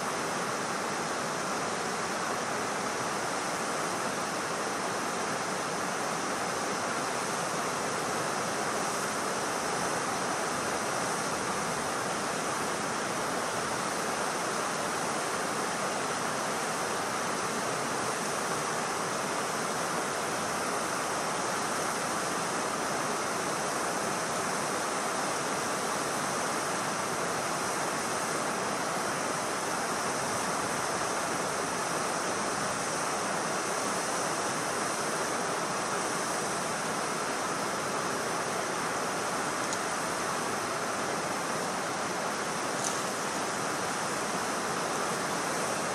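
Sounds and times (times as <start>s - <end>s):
water rushing over a dam: 0.0s - 45.9s.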